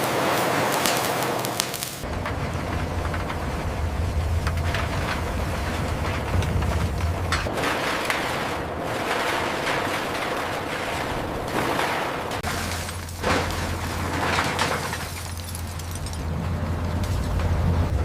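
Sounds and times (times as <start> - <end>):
metal crashing and grinding: 0.5 - 18.0
low machine hum: 2.0 - 18.0.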